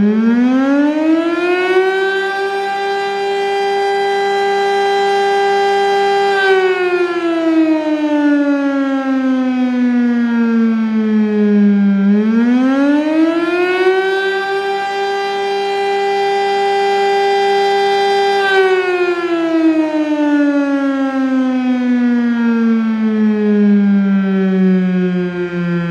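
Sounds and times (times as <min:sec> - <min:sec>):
loud siren winding down and up: 0:00.0 - 0:25.9.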